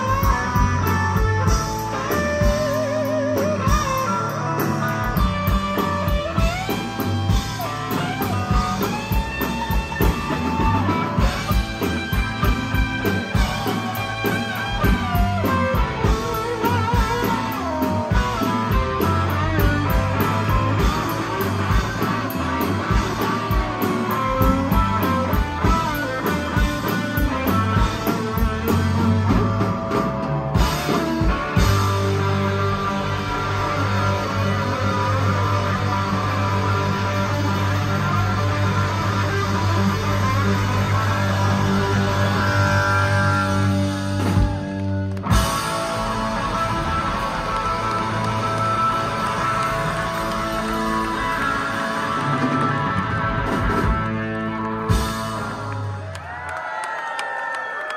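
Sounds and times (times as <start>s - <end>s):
bass guitar: 0.0s - 56.8s
drums: 0.0s - 57.9s
electric guitar solo: 0.0s - 57.9s.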